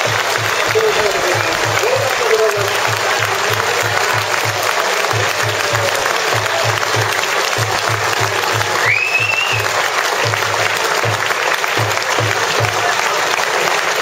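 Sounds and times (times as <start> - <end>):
stadium crowd cheering: 0.0 - 14.0.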